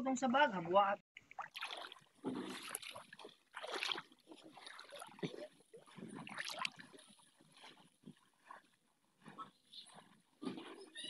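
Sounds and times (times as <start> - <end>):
water splashing from wading: 1.2 - 11.0.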